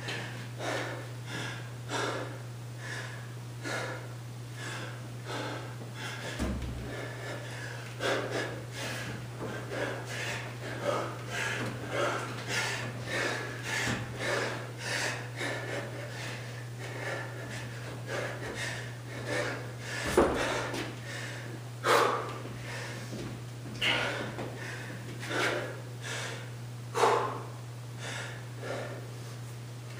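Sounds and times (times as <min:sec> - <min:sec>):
man breathing hard: 0:00.0 - 0:29.5.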